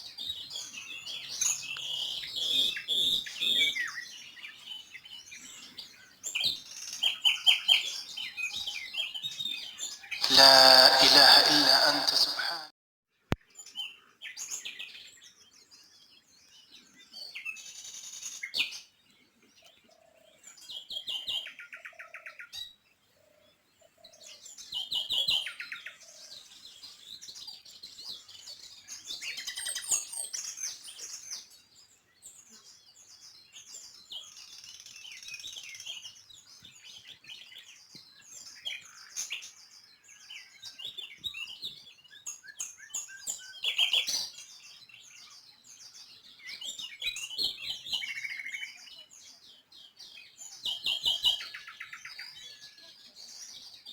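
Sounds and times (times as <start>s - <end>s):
songbirds chirping and trilling: 0.0s - 11.8s, 13.4s - 53.9s.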